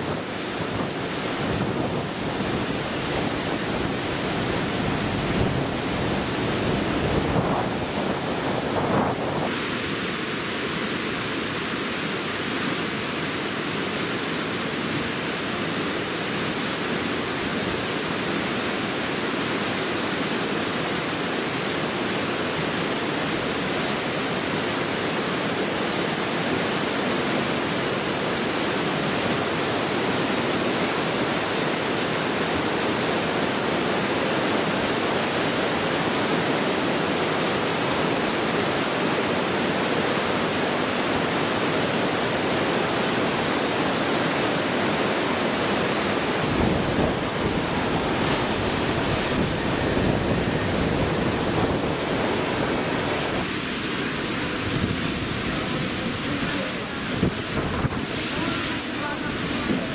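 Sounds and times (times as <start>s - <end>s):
water rushing past ship hull: 0.0s - 59.9s.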